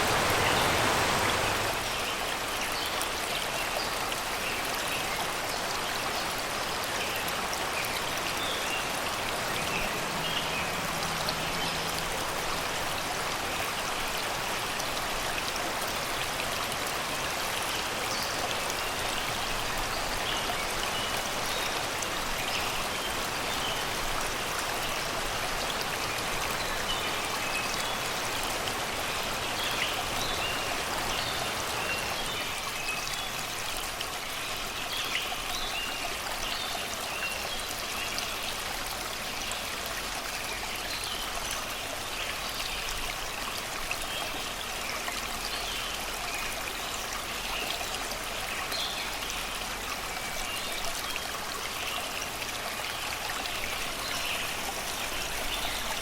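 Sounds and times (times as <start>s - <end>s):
river flowing over rocks: 0.0s - 56.0s.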